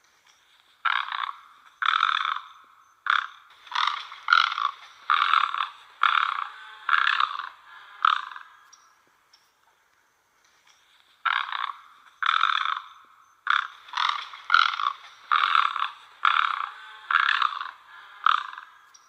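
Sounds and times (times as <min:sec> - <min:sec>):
egrets croaking calls: 0:00.7 - 0:09.0, 0:10.9 - 0:19.0.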